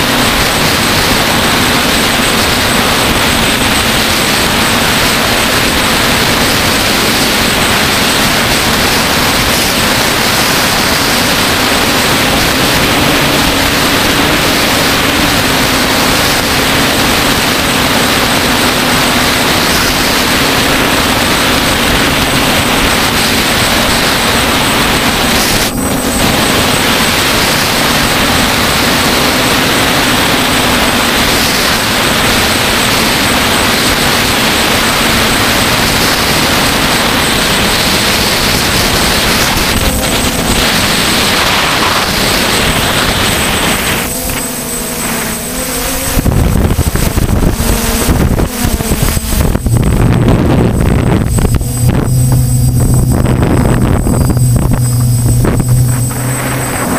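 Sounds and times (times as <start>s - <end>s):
drone motors buzzing: 0.0s - 56.9s.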